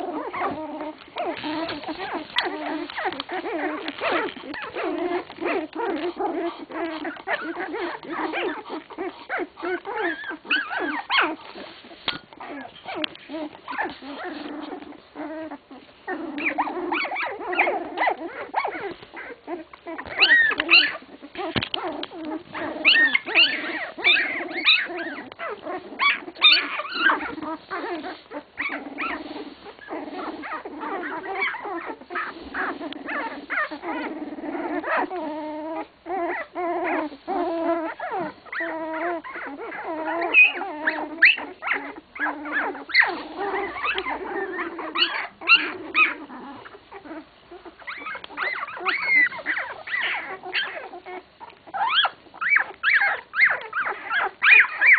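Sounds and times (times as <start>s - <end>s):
puppies whimpering and squeaking: 0.0s - 54.9s.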